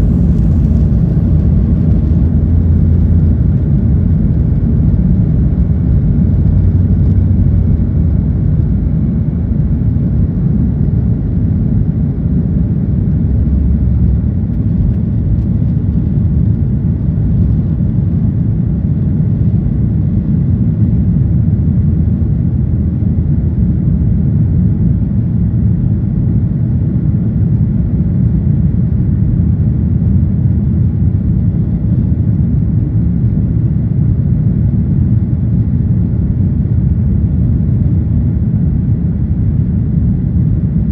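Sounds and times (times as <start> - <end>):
jet engines and airflow rumble: 0.0 - 40.9.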